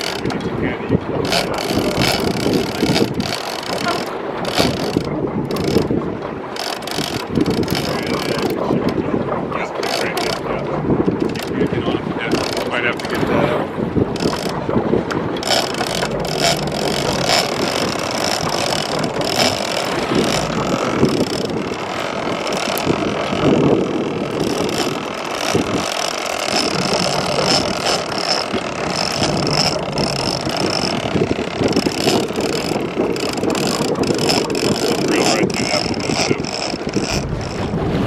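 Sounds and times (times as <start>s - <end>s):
boat engine running: 0.0s - 38.0s
wind buffeting microphone: 0.0s - 38.0s.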